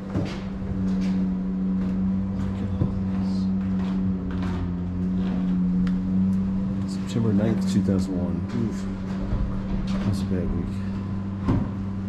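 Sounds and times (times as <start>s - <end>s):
low-pitched hum: 0.0s - 12.0s.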